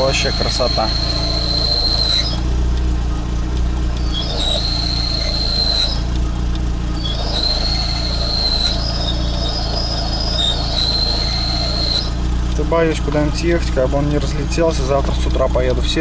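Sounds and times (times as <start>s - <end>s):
car engine idling: 0.0s - 16.0s
clutch whistling squeal: 0.0s - 16.0s.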